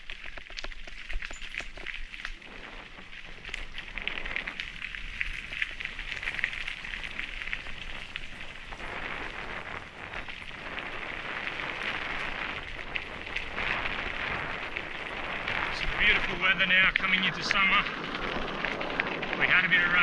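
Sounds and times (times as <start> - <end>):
bike tyres crunching on gravel: 0.0 - 20.0.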